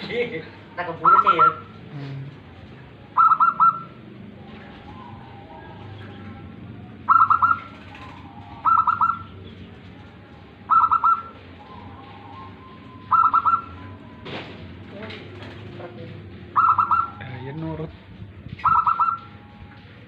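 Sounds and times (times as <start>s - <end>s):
dove cooing: 0.5s - 17.9s, 18.6s - 19.6s.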